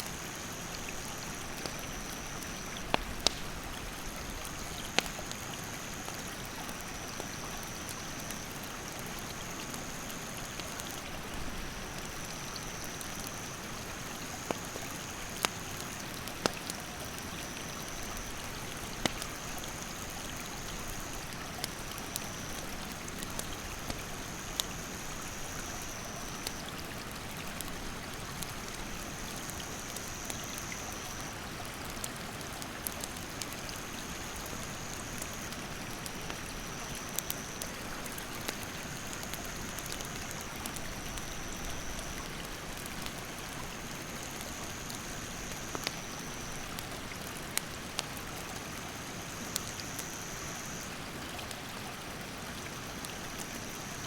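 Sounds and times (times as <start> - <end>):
campfire crackling and popping: 0.0 - 52.0, 52.7 - 54.0.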